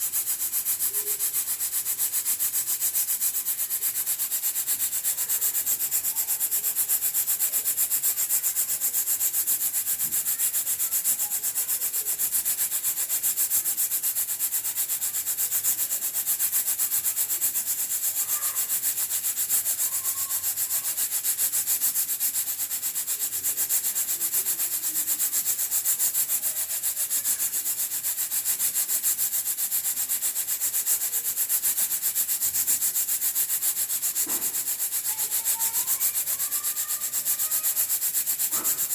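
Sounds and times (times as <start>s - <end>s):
pressure cooker steam hissing: 0.0s - 38.9s.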